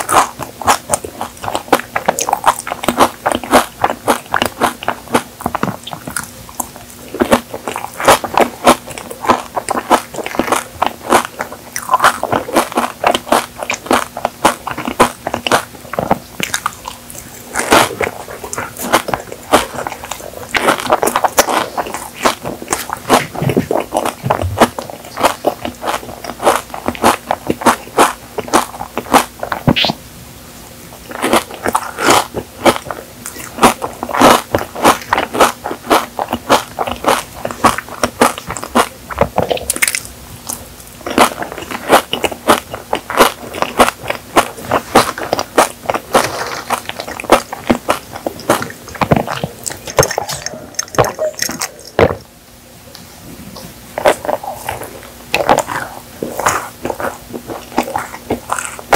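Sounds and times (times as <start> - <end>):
crunchy chewing of pastry: 0.0 - 30.0, 30.6 - 52.3, 52.9 - 58.9.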